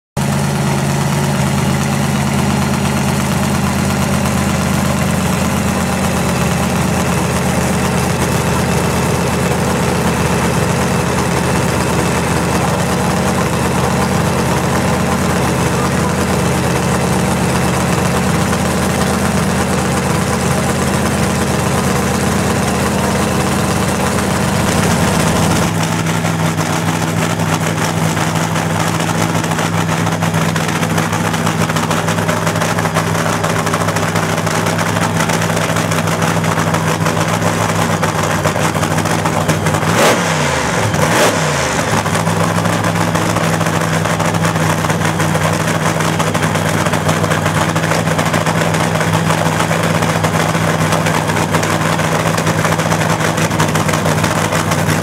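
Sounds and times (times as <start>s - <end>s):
dragster engine idling: 0.2s - 55.0s.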